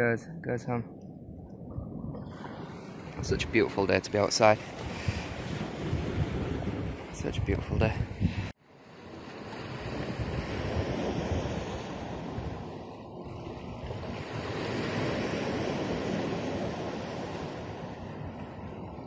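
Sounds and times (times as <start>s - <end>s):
wind: 0.0s - 19.0s
sea waves washing onto shore: 2.2s - 7.2s, 8.4s - 19.0s.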